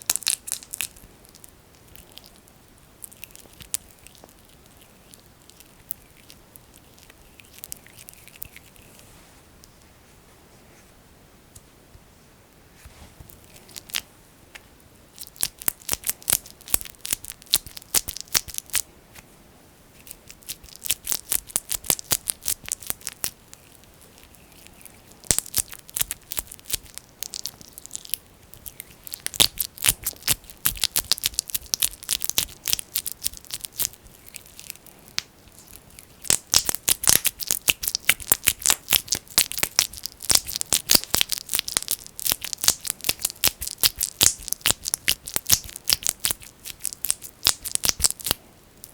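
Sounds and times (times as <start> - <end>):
sticky jelly wet crackling: 0.0 - 9.0, 13.3 - 14.0, 15.1 - 18.9, 20.0 - 48.9.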